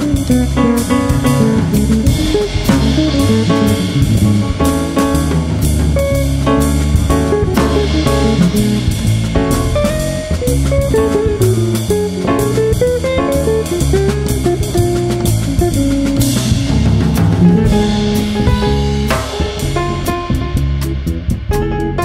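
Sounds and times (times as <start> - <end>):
double bass: 0.0 - 22.0
drums: 0.0 - 22.0
electric guitar melody: 0.0 - 22.0.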